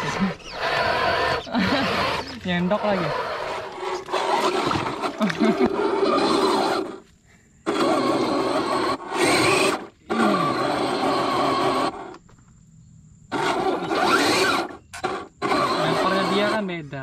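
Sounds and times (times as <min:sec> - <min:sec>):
electric motor whirring: 0:00.0 - 0:07.0, 0:07.6 - 0:12.2, 0:13.3 - 0:16.8.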